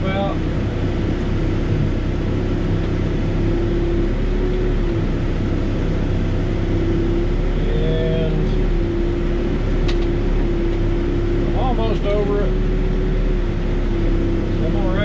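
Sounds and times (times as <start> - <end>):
diesel engine running under load: 0.0 - 15.0
hydraulic whine: 0.0 - 15.0.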